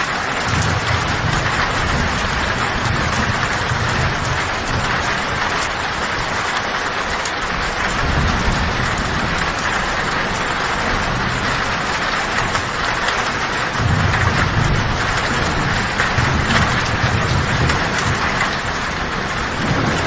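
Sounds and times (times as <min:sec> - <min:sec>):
heavy rain on a tin roof: 0:00.0 - 0:20.0
low thunder rumbling: 0:00.0 - 0:20.0.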